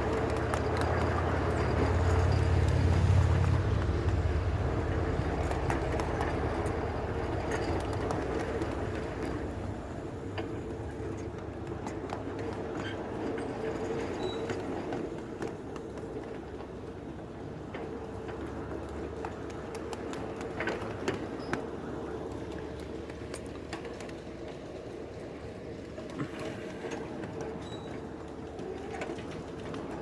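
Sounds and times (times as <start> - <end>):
miniature train rumbling: 0.0 - 30.0.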